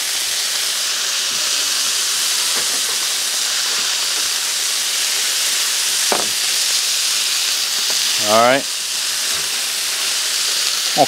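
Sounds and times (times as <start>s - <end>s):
steak sizzling on a griddle: 0.0s - 11.0s.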